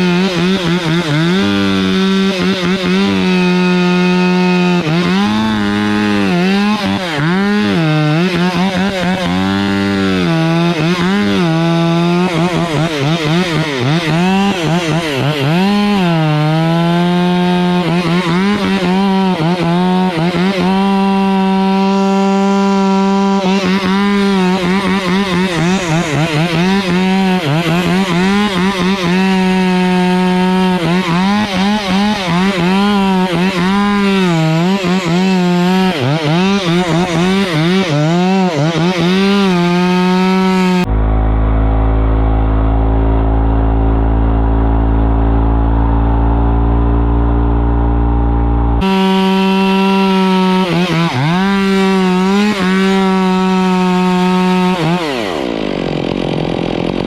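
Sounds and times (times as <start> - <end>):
chainsaw cutting a trunk: 0.0 - 42.8, 48.2 - 57.0.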